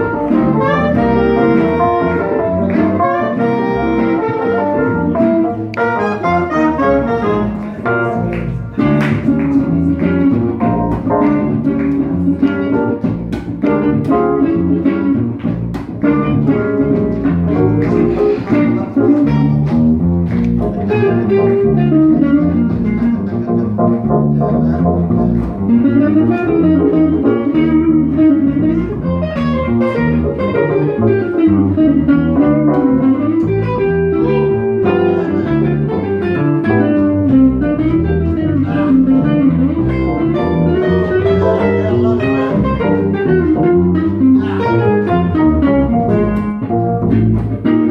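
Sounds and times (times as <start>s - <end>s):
guitar: 0.0s - 47.9s
jazz band playing funky groove: 0.0s - 47.9s.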